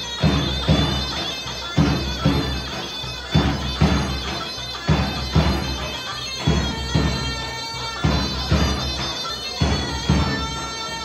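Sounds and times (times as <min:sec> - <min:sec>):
zurna shrill reedy melody: 0:00.0 - 0:11.0.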